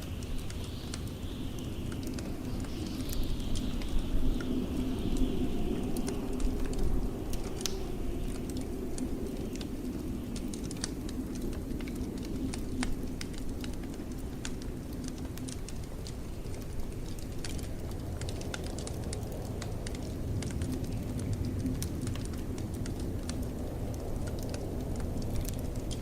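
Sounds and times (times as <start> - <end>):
blizzard wind: 0.0 - 26.0
wood fire crackling and popping: 0.0 - 26.0.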